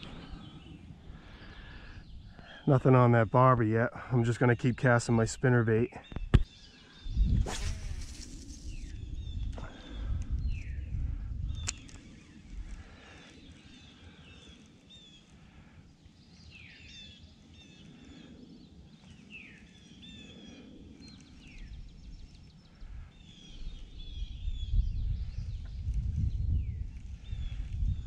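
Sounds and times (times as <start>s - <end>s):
birds chirping and whistling: 0.0s - 3.4s, 6.0s - 28.0s.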